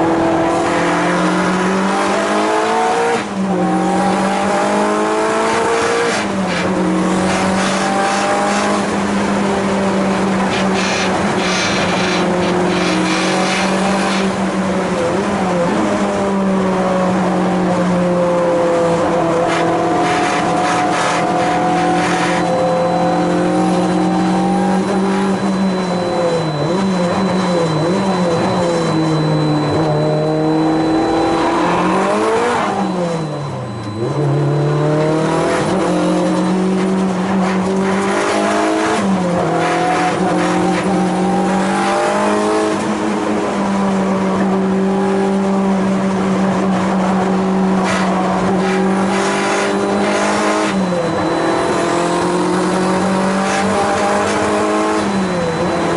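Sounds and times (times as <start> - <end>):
race car engine at high revs: 0.0 - 55.9.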